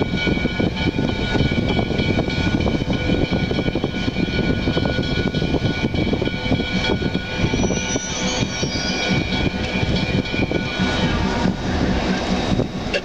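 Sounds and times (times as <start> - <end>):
high-pitched ringing tones: 0.0 - 12.8
locomotive rumbling on tracks: 0.0 - 13.0.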